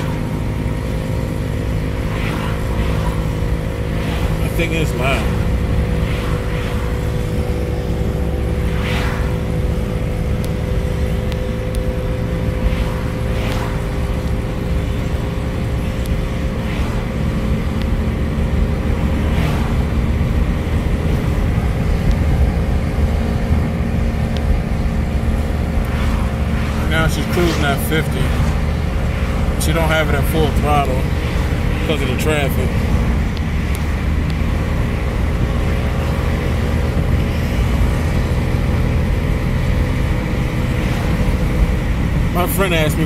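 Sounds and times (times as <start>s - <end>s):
car engine hum: 0.0s - 43.0s
road rumble inside car: 0.0s - 43.0s.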